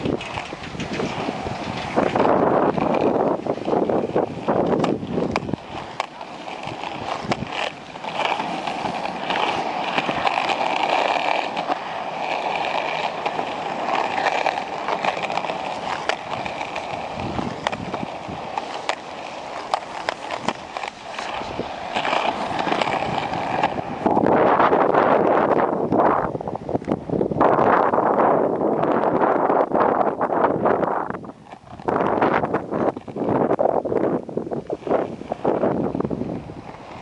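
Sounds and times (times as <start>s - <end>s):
skateboard wheels rolling on pavement: 0.0s - 37.0s.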